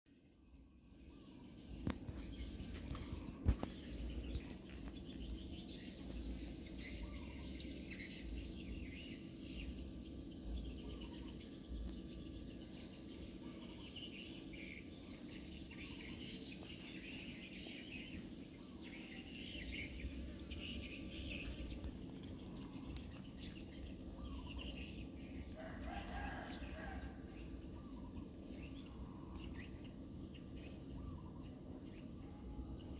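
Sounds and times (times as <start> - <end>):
steady low hum: 0.1 - 32.9.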